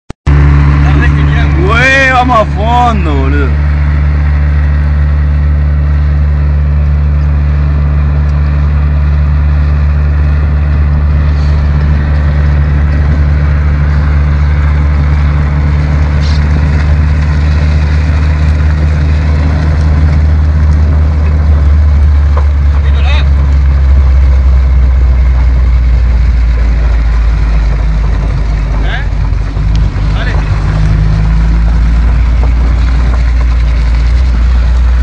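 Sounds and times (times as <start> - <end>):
vehicle engine running: 0.3 - 35.0.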